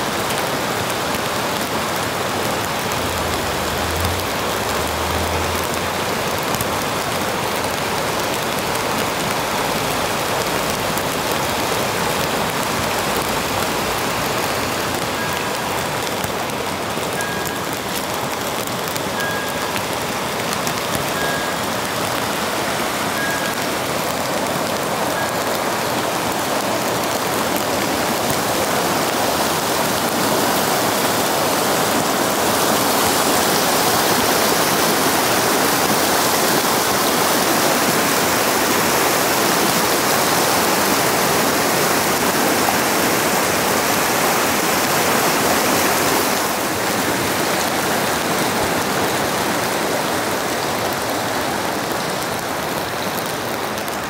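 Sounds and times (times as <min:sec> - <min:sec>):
fast-flowing stream rushing: 0:00.0 - 0:54.0
rain falling: 0:00.0 - 0:54.0.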